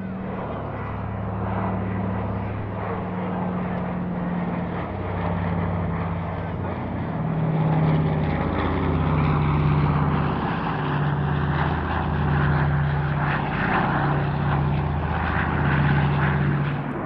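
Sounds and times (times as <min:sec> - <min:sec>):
propeller plane engines droning: 0:00.0 - 0:17.0.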